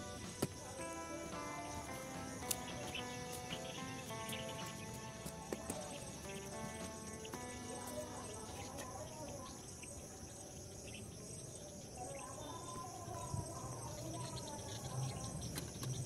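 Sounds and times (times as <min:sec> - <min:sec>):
insects shrilling: 0:00.0 - 0:16.0.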